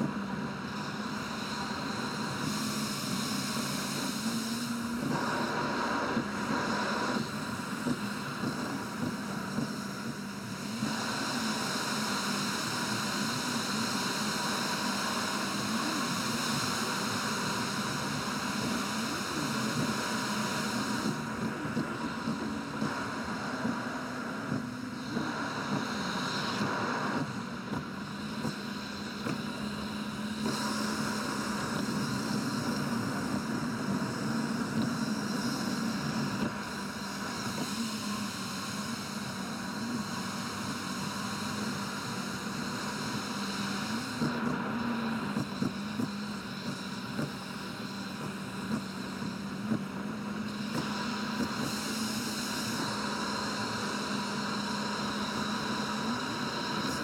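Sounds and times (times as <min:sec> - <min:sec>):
constant low hum: 0:00.0 - 0:57.0.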